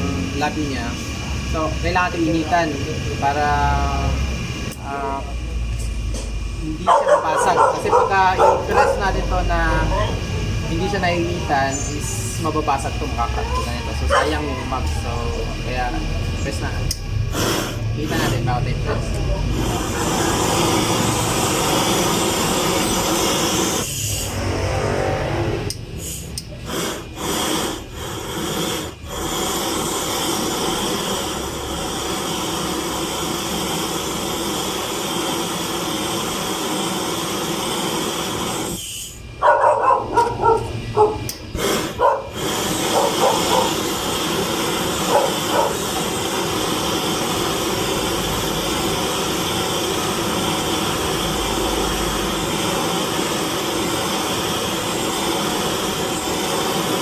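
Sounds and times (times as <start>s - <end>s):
gas torch flame hissing: 0.0s - 57.0s.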